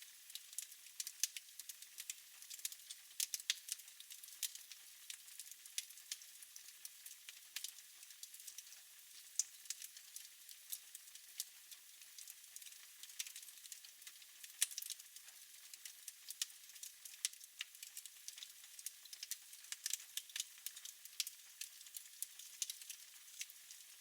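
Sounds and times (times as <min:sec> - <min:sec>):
soft steady hiss: 0:00.0 - 0:24.0.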